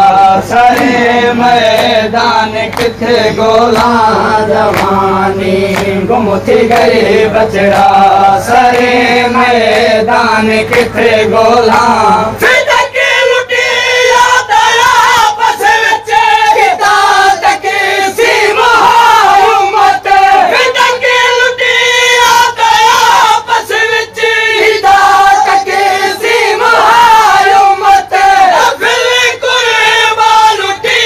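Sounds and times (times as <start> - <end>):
crowd of men chanting: 0.0 - 31.0.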